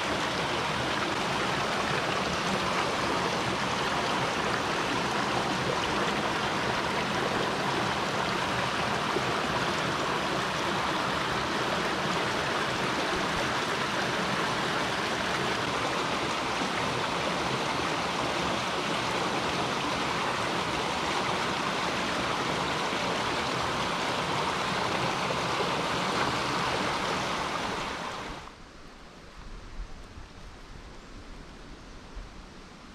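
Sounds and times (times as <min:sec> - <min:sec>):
stream water rushing: 0:00.0 - 0:29.5.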